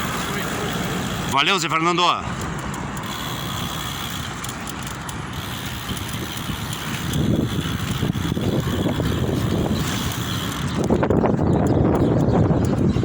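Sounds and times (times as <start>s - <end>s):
wind buffeting microphone: 2.4s - 13.0s.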